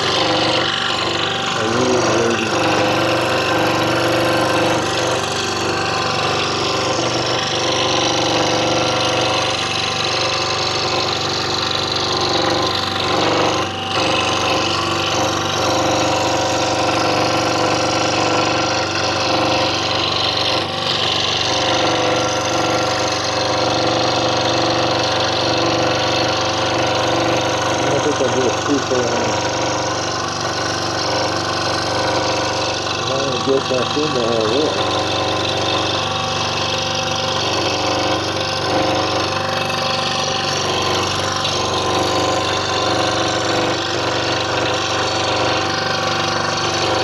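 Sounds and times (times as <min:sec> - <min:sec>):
scroll saw cutting wood: 0:00.0 - 0:47.0.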